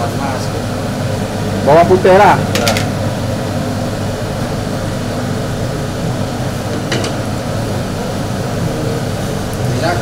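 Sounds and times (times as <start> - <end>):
kitchen equipment whirring hum: 0.0 - 10.0.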